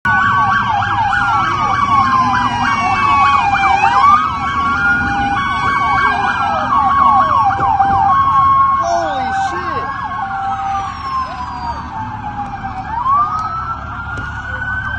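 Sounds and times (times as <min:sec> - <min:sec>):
police sirens: 0:00.0 - 0:14.9.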